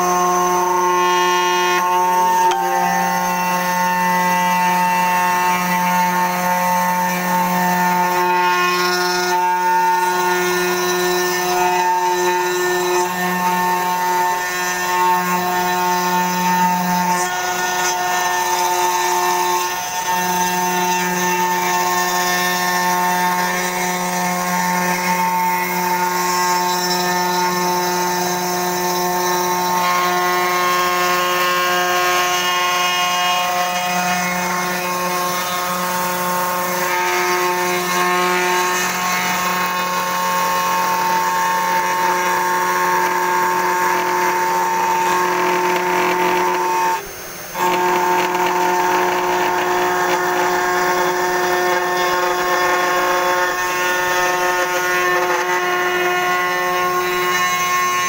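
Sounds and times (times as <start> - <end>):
router spindle motor whine: 0.0 - 58.0.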